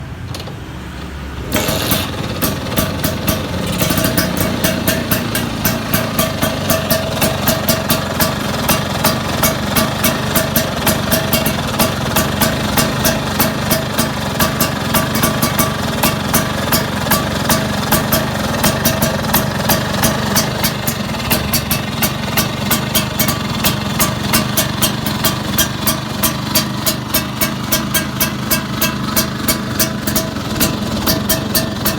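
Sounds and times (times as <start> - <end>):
scooter engine idling with pops: 0.0 - 31.9
sharp ticks: 1.6 - 31.9.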